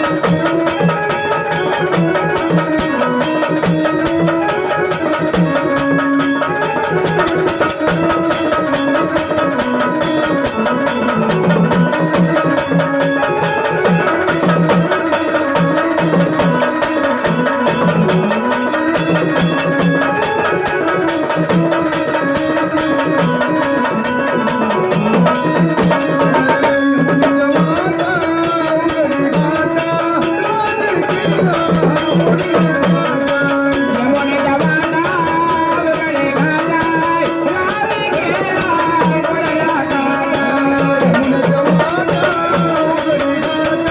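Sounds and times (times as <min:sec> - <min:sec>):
drums beating: 0:00.0 - 0:43.9
wavering melody: 0:00.0 - 0:43.9.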